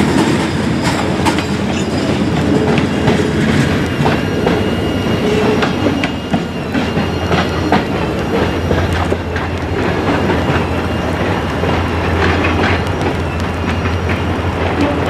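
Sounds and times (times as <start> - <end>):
train low rumble: 0.0 - 15.0
train wheels clacking: 0.0 - 15.0.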